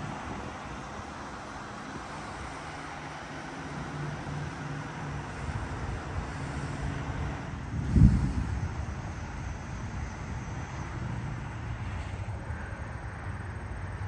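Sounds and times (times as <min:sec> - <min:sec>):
low engine hum: 0:00.0 - 0:14.0
road traffic rumble: 0:00.0 - 0:14.0
wind: 0:00.0 - 0:14.0.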